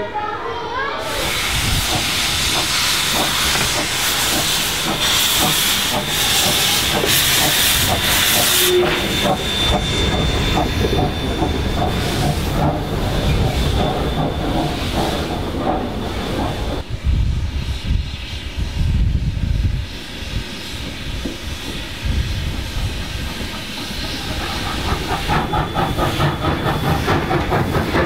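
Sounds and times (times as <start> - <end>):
steam locomotive hissing: 0.7 - 28.0.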